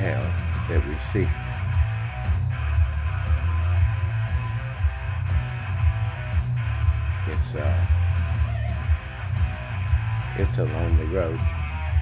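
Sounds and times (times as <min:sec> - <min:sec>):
guitar-led music: 0:00.0 - 0:12.0.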